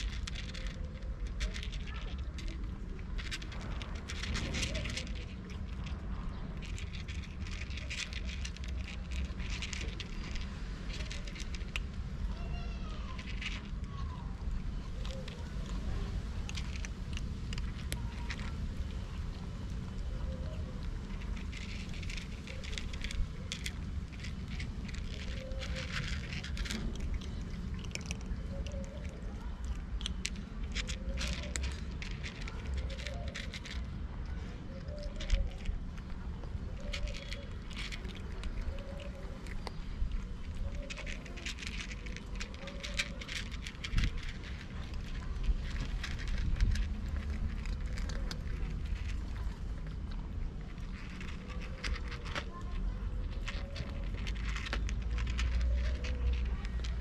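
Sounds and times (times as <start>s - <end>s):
cats crunching dry kibble: 0.0s - 57.0s
low steady rumble: 0.0s - 57.0s.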